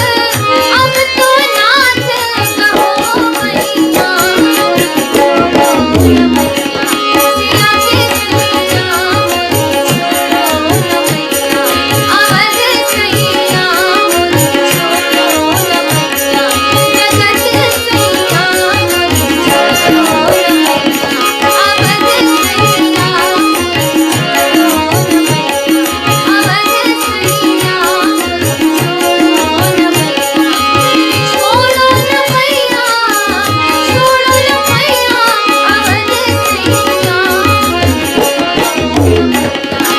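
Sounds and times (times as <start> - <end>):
tabla rhythm: 0.0 - 39.9
held drone: 0.2 - 39.9.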